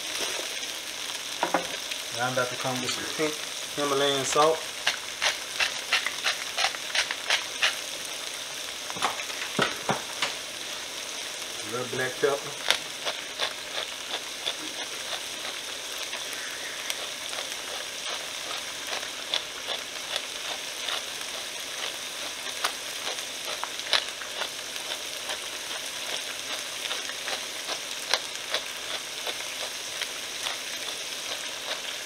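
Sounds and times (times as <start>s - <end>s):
vegetables sizzling in a frying pan: 0.0s - 32.0s.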